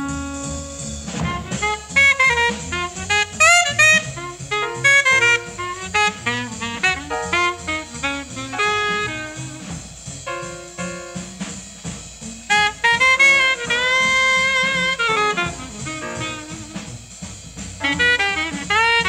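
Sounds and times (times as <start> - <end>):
jazz horn solo: 0.0 - 19.0
jazz rhythm section: 0.0 - 19.0.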